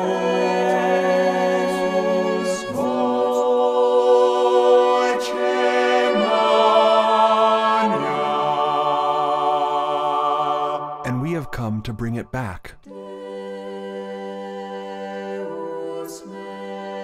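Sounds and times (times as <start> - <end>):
choir singing a cappella: 0.0 - 11.2, 12.8 - 17.0.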